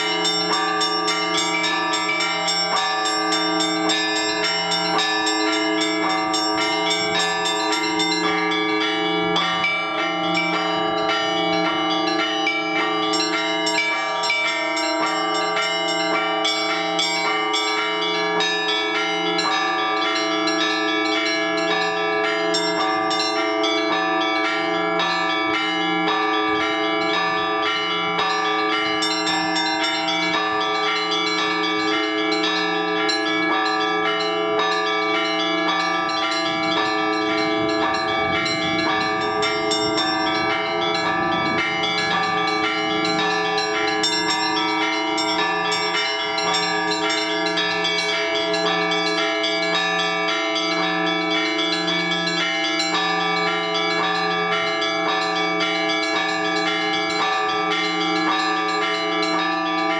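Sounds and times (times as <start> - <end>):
low bell struck in steady beat: 0.0 - 59.9
middle bells ringing: 0.0 - 59.9
small bells chiming rapidly: 0.0 - 59.9.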